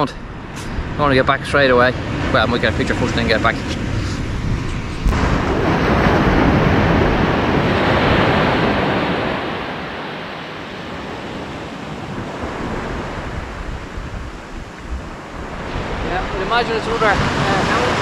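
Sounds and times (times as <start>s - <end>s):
sea waves breaking: 0.0s - 18.0s
wind buffeting microphone: 0.0s - 18.0s.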